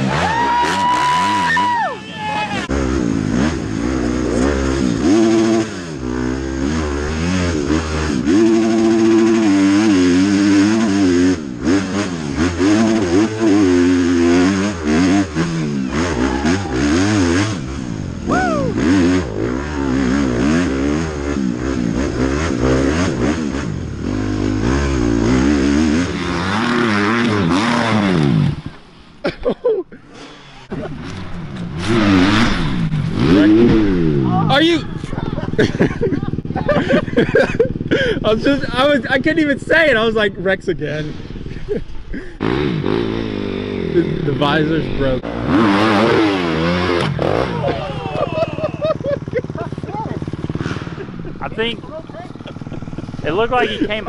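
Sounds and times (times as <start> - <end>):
dirt bike engine revving: 0.0 - 28.9, 30.0 - 54.0.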